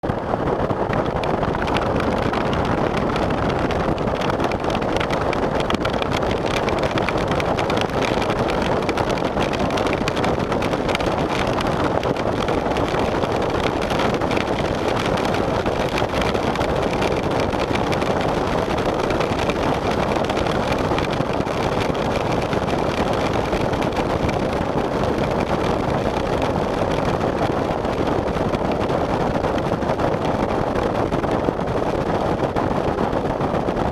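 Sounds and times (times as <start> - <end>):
hard rain: 0.2 - 33.9
vehicle driving through rain: 0.4 - 30.4.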